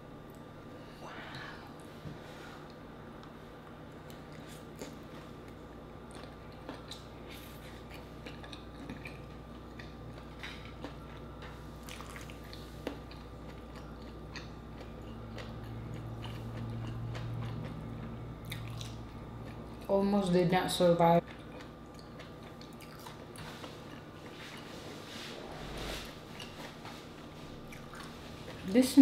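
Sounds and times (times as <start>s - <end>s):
steady low hum: 0.0s - 29.0s
wet chewing mouth sounds: 4.0s - 19.9s, 21.2s - 28.6s.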